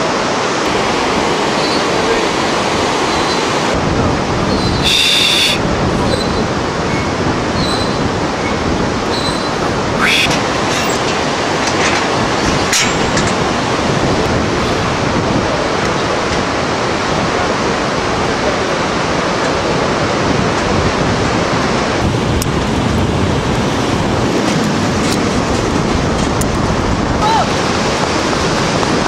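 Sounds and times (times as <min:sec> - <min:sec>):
river rapids roaring: 0:00.0 - 0:29.0
wind on microphone: 0:00.0 - 0:29.0.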